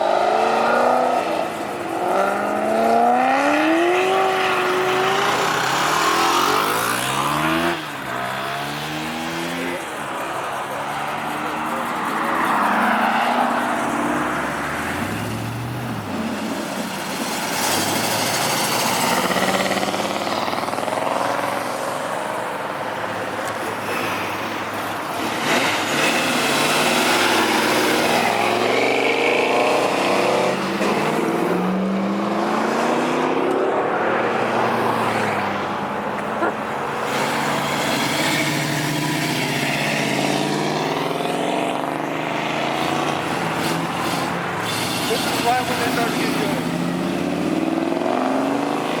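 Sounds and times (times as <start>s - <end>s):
car engines revving past: 0.0s - 49.0s.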